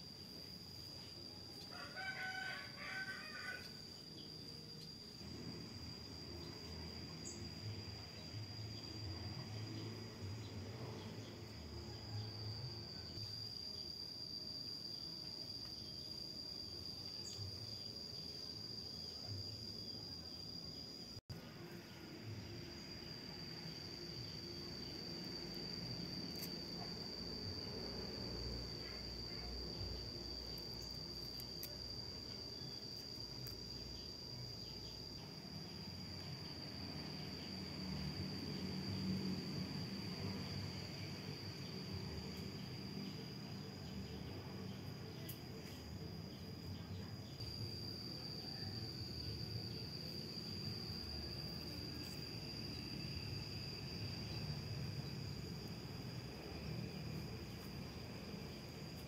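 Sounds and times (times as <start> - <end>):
faint outdoor hiss: 0.0 - 59.0
insect song: 0.0 - 59.0.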